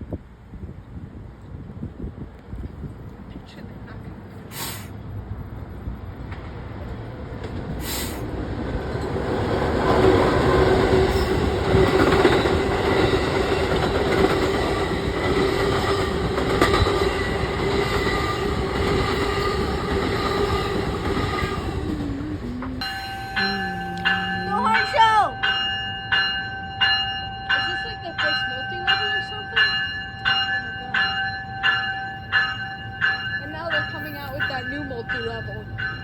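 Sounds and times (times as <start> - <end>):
train rumbling past: 0.2 - 36.0.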